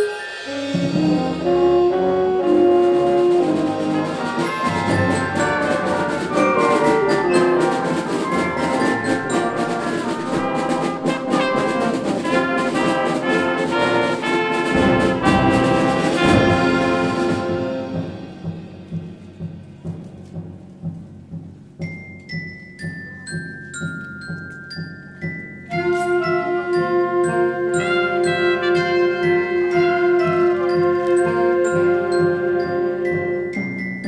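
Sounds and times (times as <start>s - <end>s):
concert band playing: 0.0s - 19.8s, 25.6s - 33.5s.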